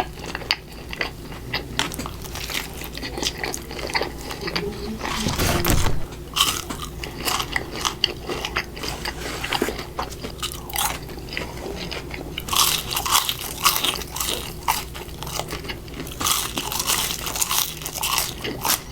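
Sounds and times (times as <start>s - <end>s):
person chewing food: 0.0s - 4.6s, 6.4s - 18.9s.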